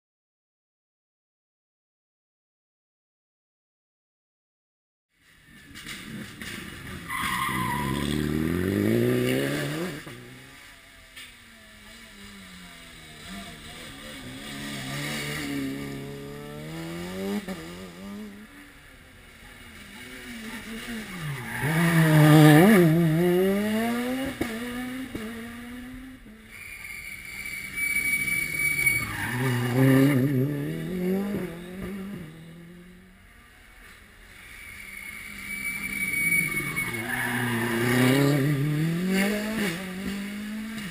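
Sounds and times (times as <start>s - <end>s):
rally car engine revving: 5.7s - 33.4s, 34.3s - 40.9s.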